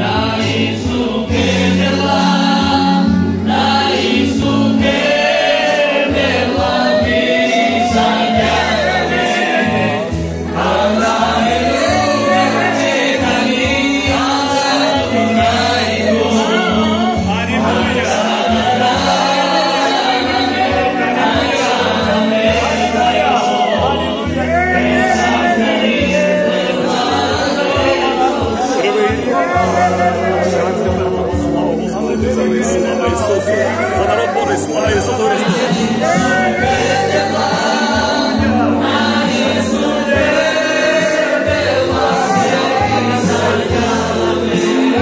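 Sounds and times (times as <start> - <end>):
congregation singing: 0.0 - 45.0
man singing into microphone: 5.4 - 45.0.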